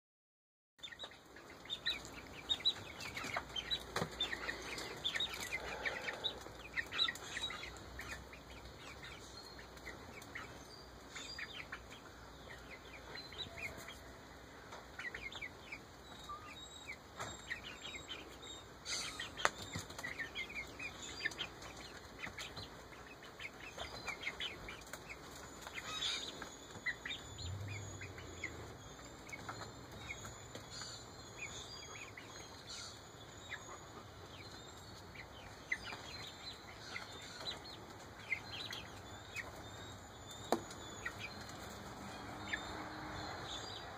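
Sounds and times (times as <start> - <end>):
chicks chirping and peeping: 0.8 - 43.9.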